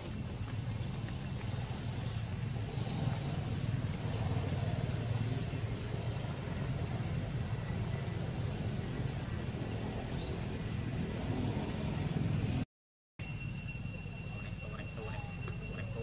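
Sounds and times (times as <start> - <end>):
vehicle engine rumbling: 0.0 - 12.6, 13.8 - 16.0.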